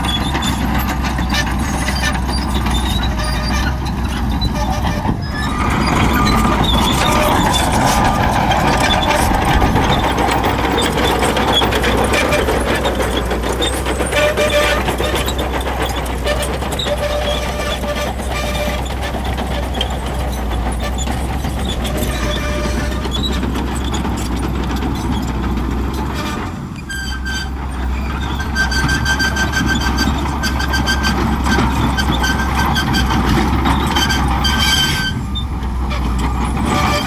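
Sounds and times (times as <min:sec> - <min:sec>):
bulldozer diesel engine running: 0:00.0 - 0:37.0
steel tracks clanking and rattling: 0:00.0 - 0:37.0.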